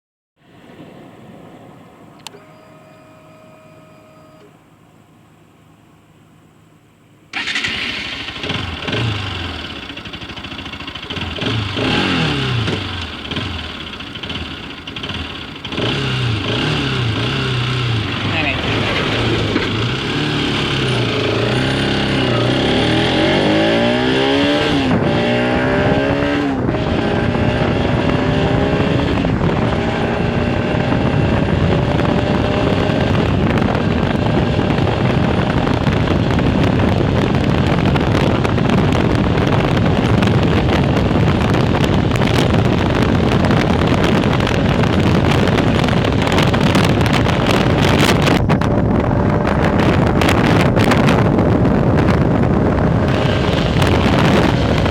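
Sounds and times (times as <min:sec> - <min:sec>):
motorcycle engine accelerating: 0:07.3 - 0:54.9
rushing wind noise: 0:07.4 - 0:54.9.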